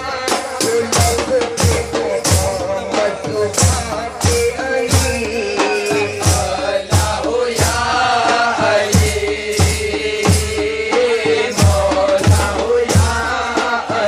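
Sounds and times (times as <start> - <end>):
frame drums and tambourines: 0.0 - 14.0
men chanting: 0.0 - 14.0.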